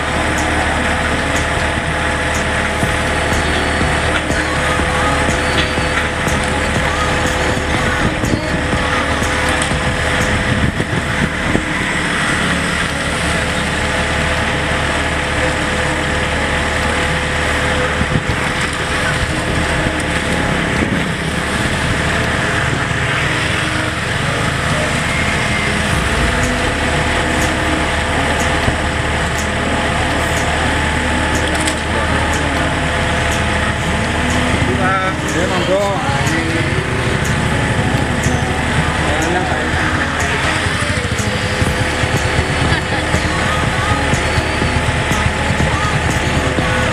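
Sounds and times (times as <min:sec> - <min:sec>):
excavator diesel engine running: 0:00.0 - 0:46.9
steady tones: 0:00.0 - 0:46.9.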